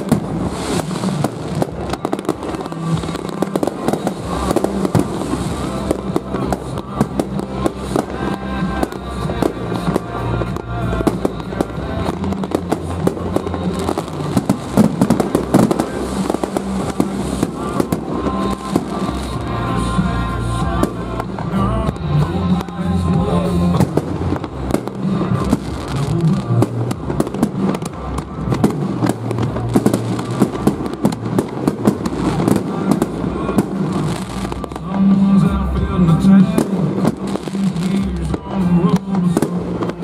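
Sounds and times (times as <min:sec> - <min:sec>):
firework bangs and crackles: 0:00.0 - 0:40.0
music playing: 0:00.0 - 0:40.0.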